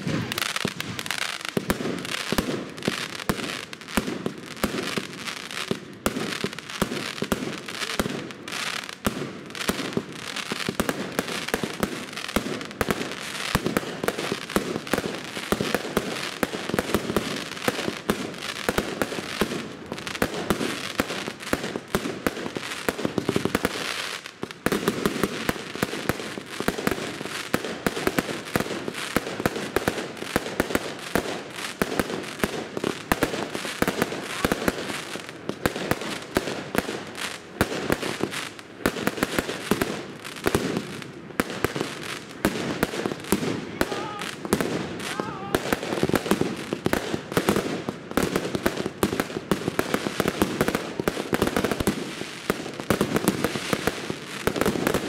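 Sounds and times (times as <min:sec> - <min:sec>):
fireworks launching and bursting: 0:00.0 - 0:55.0.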